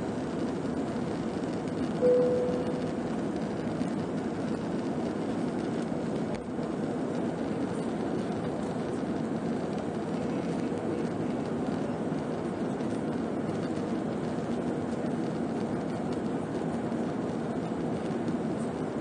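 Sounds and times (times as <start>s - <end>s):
jet engine noise in cabin: 0.0s - 19.0s.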